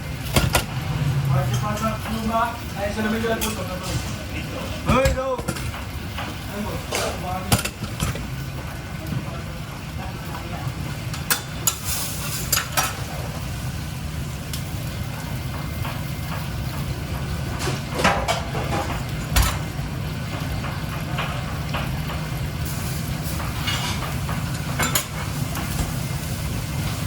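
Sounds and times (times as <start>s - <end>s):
utensils and pans clattering: 0.2s - 8.4s, 11.0s - 13.5s, 15.0s - 27.0s.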